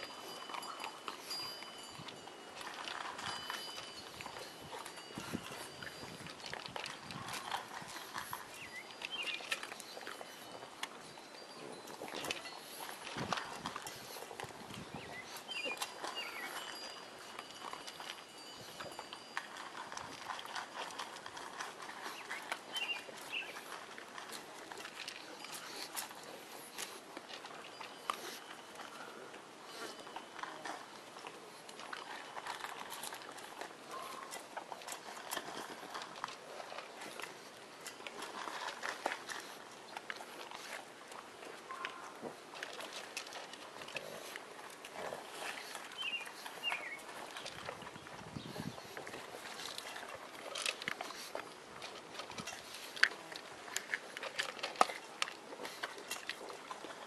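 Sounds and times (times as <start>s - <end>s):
dog crunching dry kibble: 0.0s - 57.0s.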